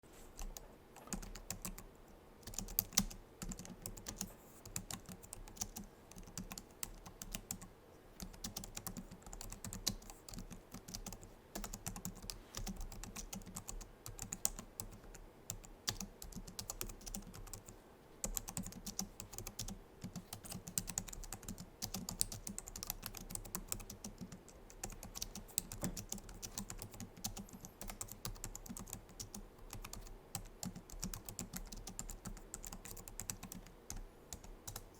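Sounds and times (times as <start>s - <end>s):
keyboard typing: 0.4s - 34.9s.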